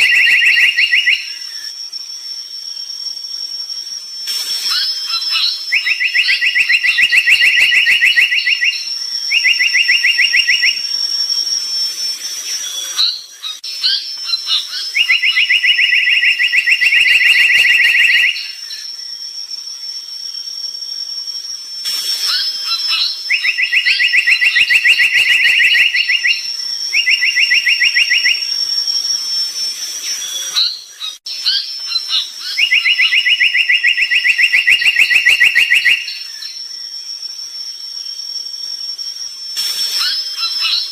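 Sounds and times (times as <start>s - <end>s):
bird singing trills: 0.0s - 3.5s, 4.5s - 20.5s, 21.9s - 38.3s, 39.2s - 40.9s
steady high-pitched whine: 0.0s - 40.9s.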